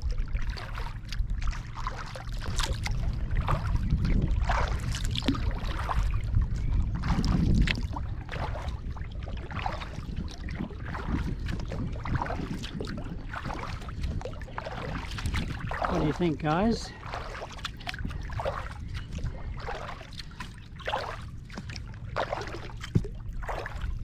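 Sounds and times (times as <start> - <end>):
paddle splashing water: 0.0 - 24.0
wind rumble on microphone: 0.0 - 24.0.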